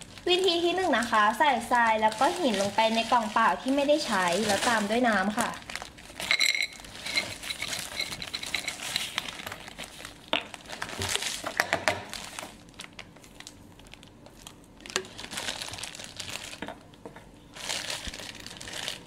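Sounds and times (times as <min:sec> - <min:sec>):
plastic container crackling: 0:00.0 - 0:19.0.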